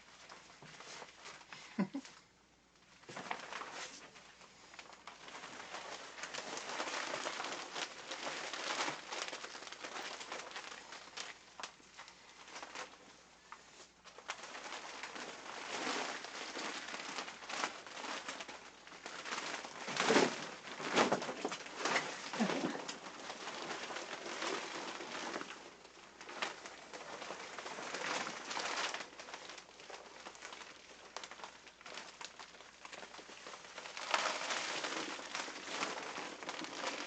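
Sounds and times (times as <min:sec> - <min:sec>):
plastic rain poncho rustling: 0:00.0 - 0:37.0.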